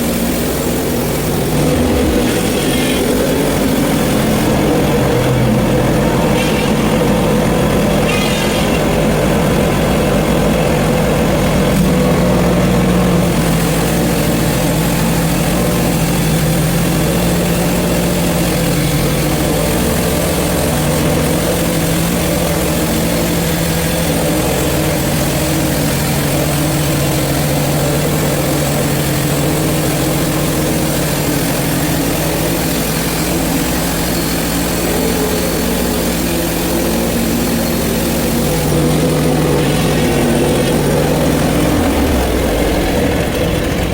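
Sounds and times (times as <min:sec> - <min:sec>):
saw blade hissing through wood: 0:00.0 - 0:43.0
sawmill engine running under load: 0:00.0 - 0:43.9.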